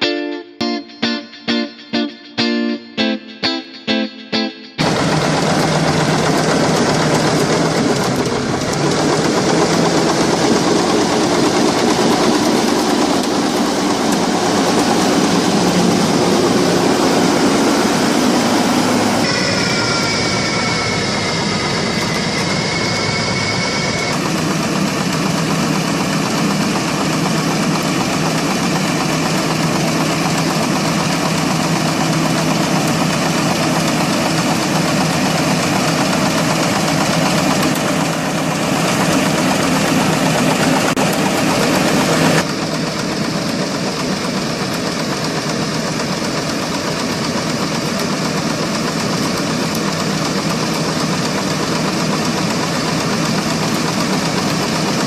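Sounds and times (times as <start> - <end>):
tractor engine running: 4.8 - 55.0.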